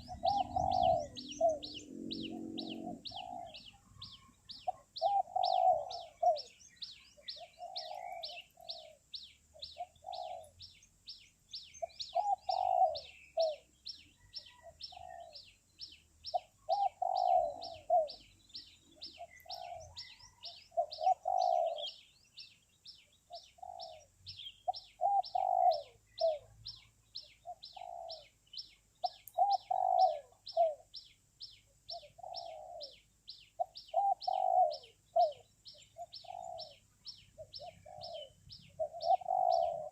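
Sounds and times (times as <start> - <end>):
doves cooing: 0.0 - 6.6, 7.2 - 9.1, 9.7 - 10.6, 11.8 - 15.5, 16.3 - 18.3, 19.0 - 22.0, 23.3 - 26.8, 27.4 - 28.4, 29.0 - 31.0, 31.9 - 33.0, 33.6 - 39.9.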